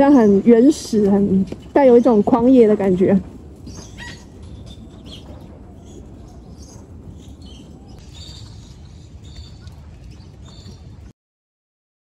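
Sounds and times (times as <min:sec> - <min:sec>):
birds chirping: 0:00.0 - 0:11.1
low outdoor rumble: 0:00.0 - 0:11.1.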